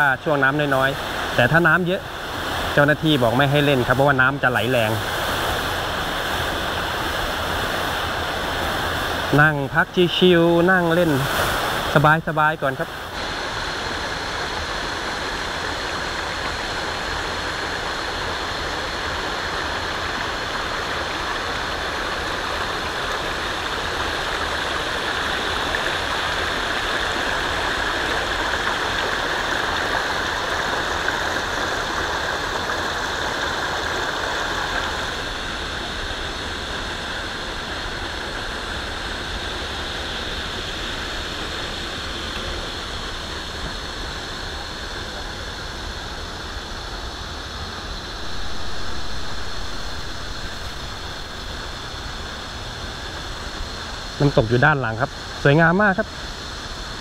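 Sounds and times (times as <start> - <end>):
stream rushing over stones: 0.0 - 57.0.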